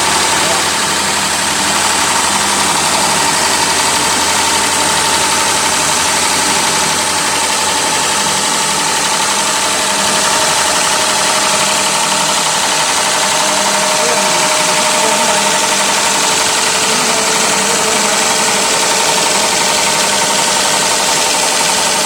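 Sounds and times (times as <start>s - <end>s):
lower machine whine: 0.0s - 22.0s
wood lathe whining: 0.0s - 22.0s.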